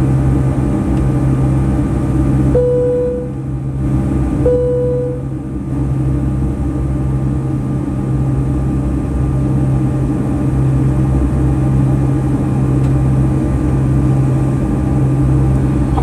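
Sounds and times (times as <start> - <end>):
airplane cabin engine drone: 0.0 - 16.0
strong low hum: 0.0 - 16.0.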